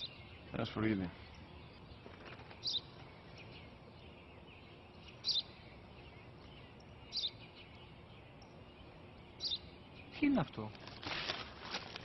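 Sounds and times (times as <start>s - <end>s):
sparrow chirping: 0.0s - 10.8s.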